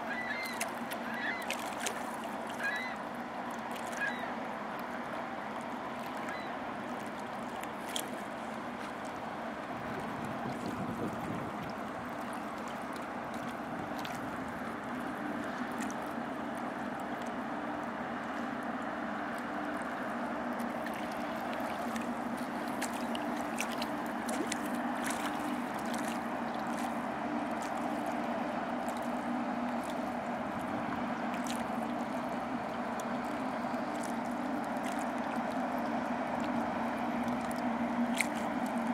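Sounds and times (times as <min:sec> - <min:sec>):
ship engines low hum: 0:00.0 - 0:38.9
water gurgling along hull: 0:00.0 - 0:38.9.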